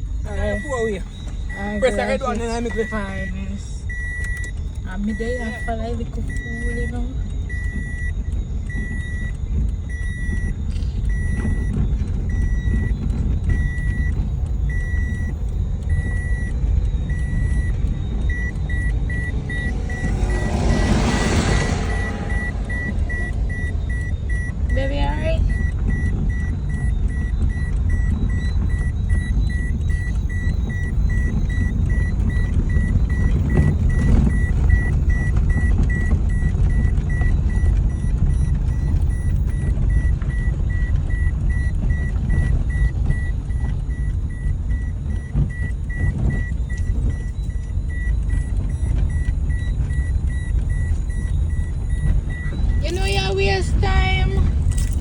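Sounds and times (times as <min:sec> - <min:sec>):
high electronic beep: 0:00.0 - 0:55.0
road and engine rumble: 0:00.0 - 0:55.0.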